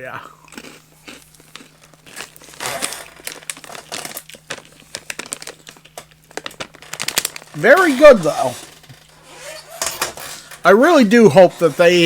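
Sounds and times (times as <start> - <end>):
candy bag crinkling: 0.6 - 9.2, 10.6 - 12.0.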